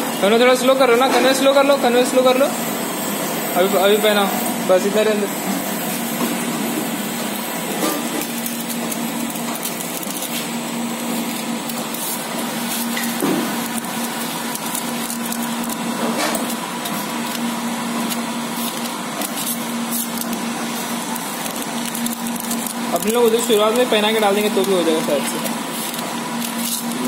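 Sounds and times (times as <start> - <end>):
machinery hum and whir: 0.0 - 27.0.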